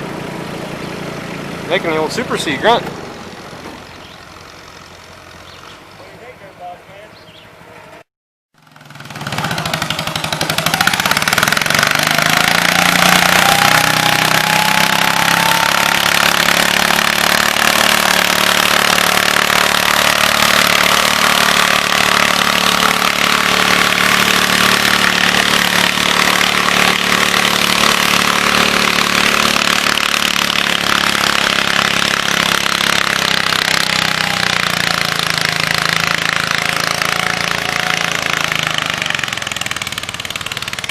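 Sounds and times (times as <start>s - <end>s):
tractor engine running under load: 0.0s - 6.3s, 8.6s - 40.9s.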